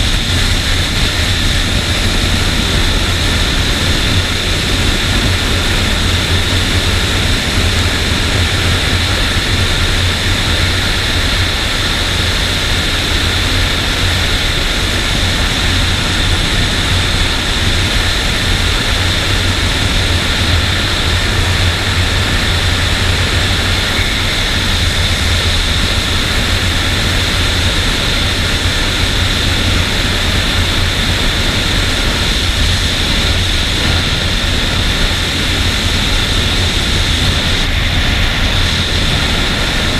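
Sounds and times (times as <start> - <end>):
motorcycle engine droning: 0.0 - 39.9
wind rush on microphone: 0.0 - 39.9.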